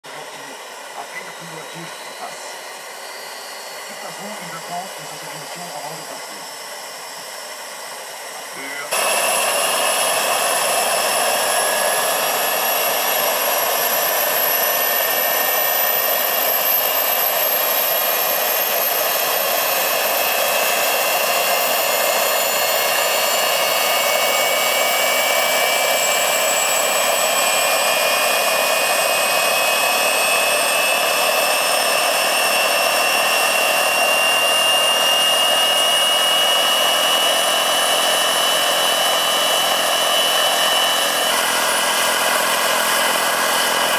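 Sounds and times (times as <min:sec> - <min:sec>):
turbine engine whine: 0:00.0 - 0:43.9.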